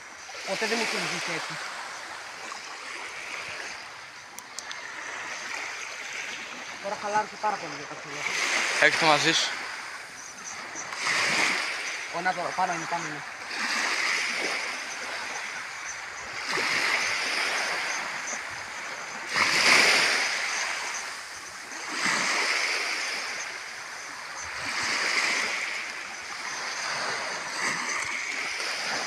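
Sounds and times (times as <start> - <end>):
small waves washing onto shore: 0.0 - 29.0
wave splash: 0.0 - 29.0.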